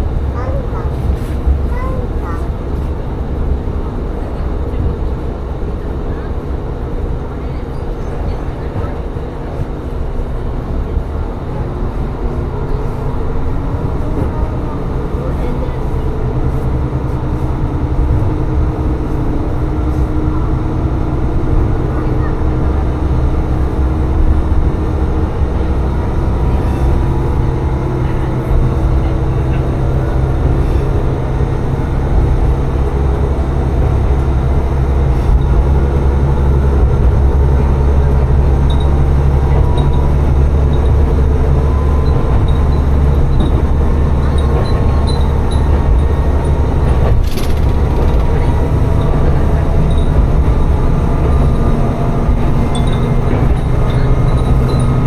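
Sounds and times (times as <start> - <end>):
railcar engine and wheel rumble: 0.0 - 55.0.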